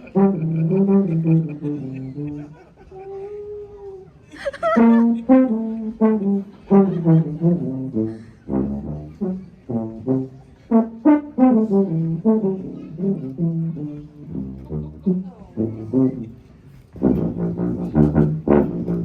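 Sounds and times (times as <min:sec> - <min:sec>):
brass instrument melody: 0:00.0 - 0:02.8, 0:04.6 - 0:19.0.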